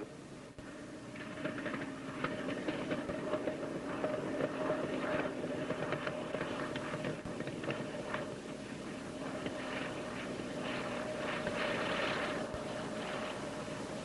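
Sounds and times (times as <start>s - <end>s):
piston aircraft engine droning: 0.0s - 14.0s.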